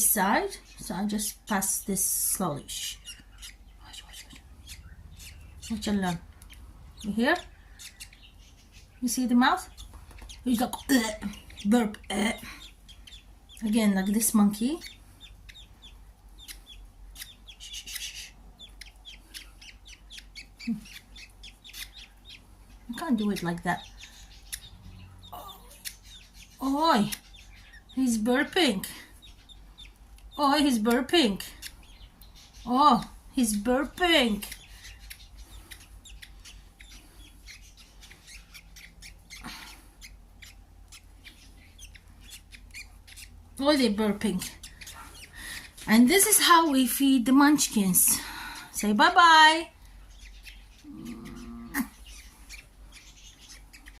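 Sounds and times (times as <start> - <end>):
chicks chirping: 2.6 - 54.0.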